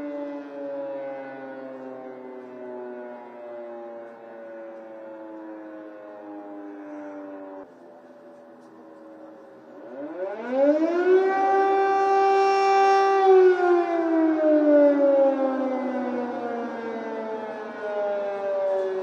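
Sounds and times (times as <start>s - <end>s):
air-raid siren wailing: 0.0s - 19.0s.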